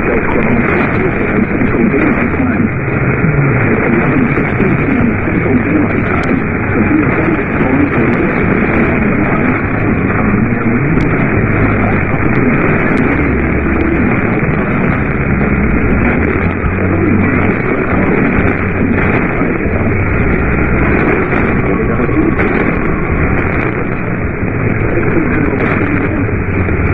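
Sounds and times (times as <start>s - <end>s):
faint crackles: 0.0s - 26.9s
radio static hiss: 0.0s - 26.9s.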